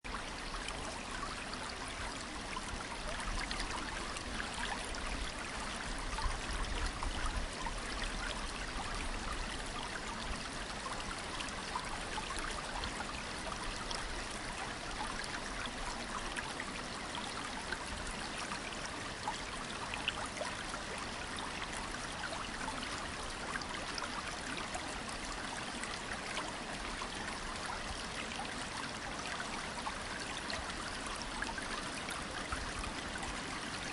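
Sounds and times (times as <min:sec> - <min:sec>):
creek water babbling: 0:00.0 - 0:33.9.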